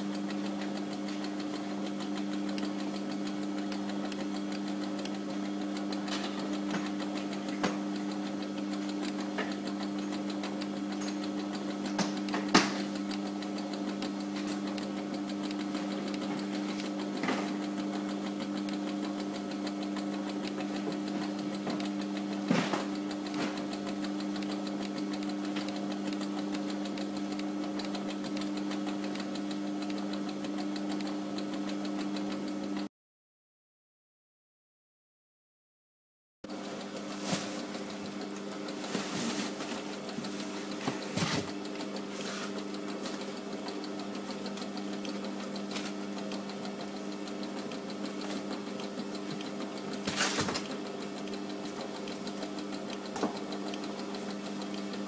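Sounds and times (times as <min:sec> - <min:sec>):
labelling machine humming: 0:00.0 - 0:32.9, 0:36.5 - 0:55.0.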